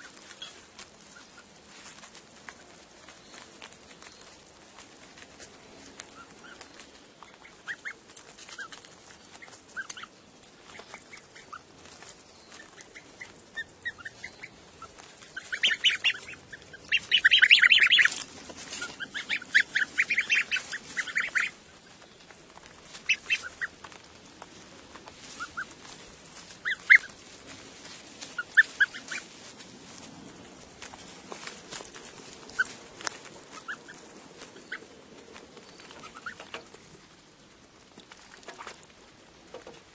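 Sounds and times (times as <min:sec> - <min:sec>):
goslings peeping: 0:00.0 - 0:39.9.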